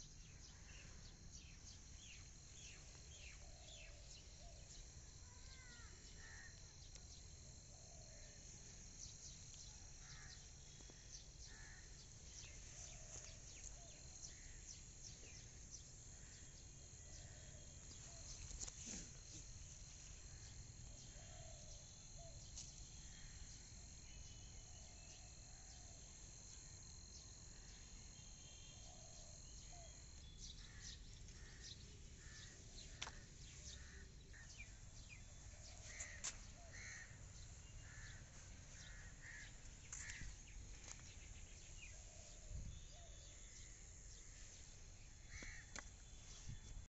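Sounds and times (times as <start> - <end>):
insect trill: 0.0 - 46.9.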